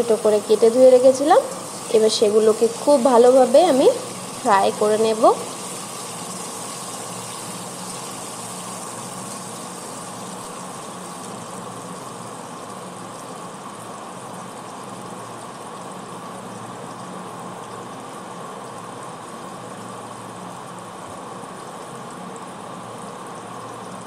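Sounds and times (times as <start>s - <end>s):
potatoes sizzling in hot oil: 0.0s - 24.0s.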